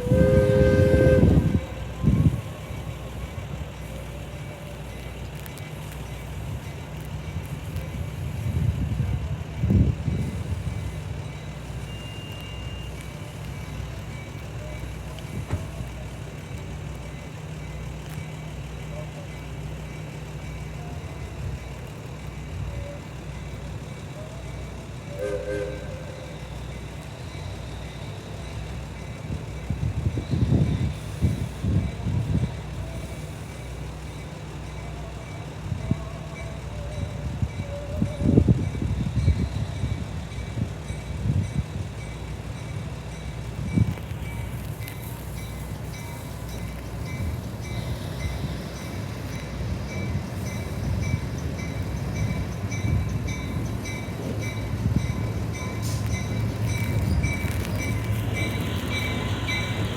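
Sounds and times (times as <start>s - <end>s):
train coach rumbling: 0.0s - 59.9s.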